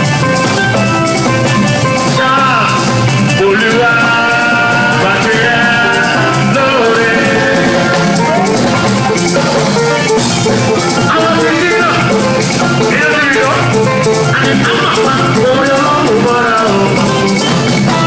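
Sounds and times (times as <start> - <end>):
drum kit beat: 0.0 - 18.0
live band music: 0.0 - 18.0
melodic lead line: 0.0 - 18.0.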